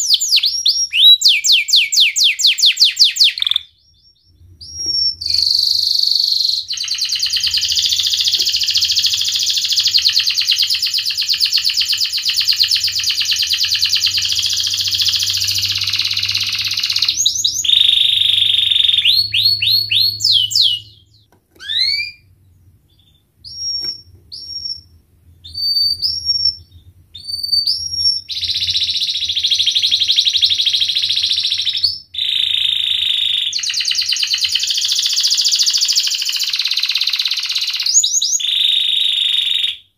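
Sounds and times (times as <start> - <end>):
canary singing trills: 0.0 - 39.8.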